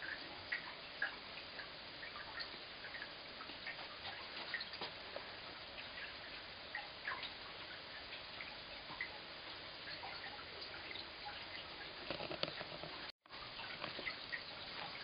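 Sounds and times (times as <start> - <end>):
drip ticks: 0.0 - 15.0.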